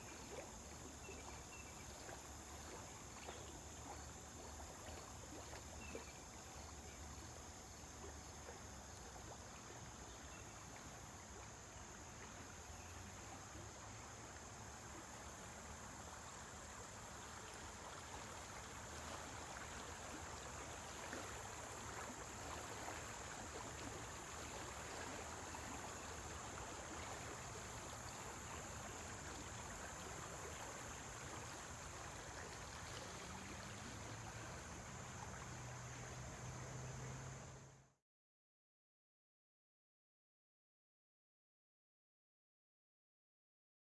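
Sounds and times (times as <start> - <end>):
water flowing and trickling: 0.0 - 37.8.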